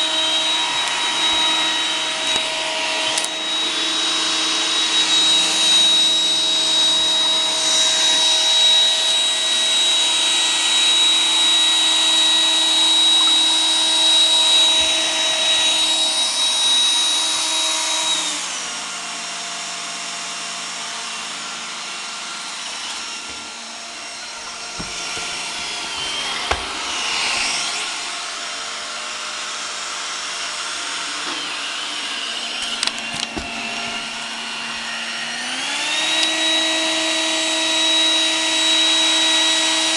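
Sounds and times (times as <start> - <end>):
robot vacuum motor whine: 0.0 - 39.9.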